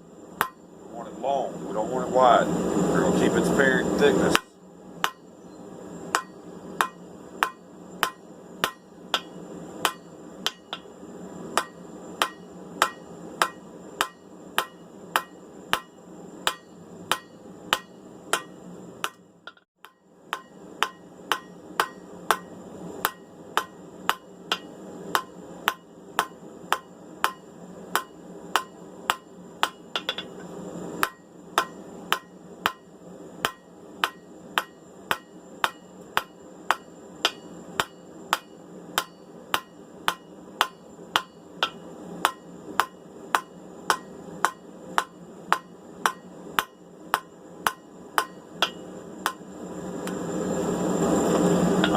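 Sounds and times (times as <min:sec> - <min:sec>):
hammer striking steel on anvil: 0:00.4 - 0:00.7, 0:04.3 - 0:05.3, 0:06.1 - 0:11.0, 0:11.6 - 0:30.4, 0:31.0 - 0:49.4.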